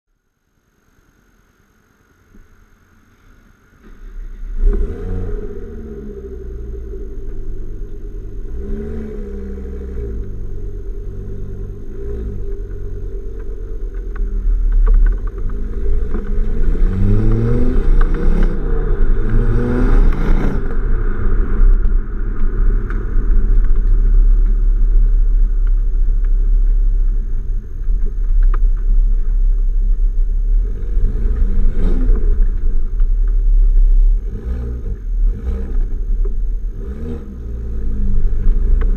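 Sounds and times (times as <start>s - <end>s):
exhaust crackles: 2.4s - 38.9s
car engine revving: 3.8s - 38.9s.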